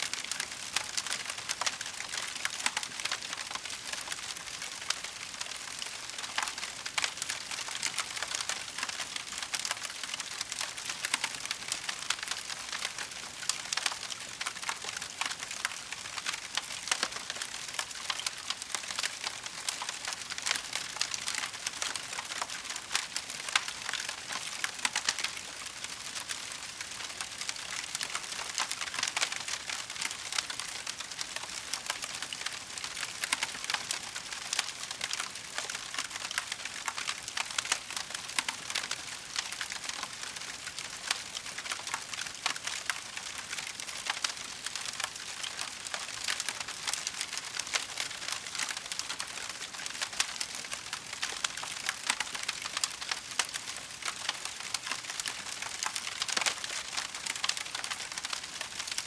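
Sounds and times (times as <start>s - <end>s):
wood fire crackling: 0.2s - 59.0s.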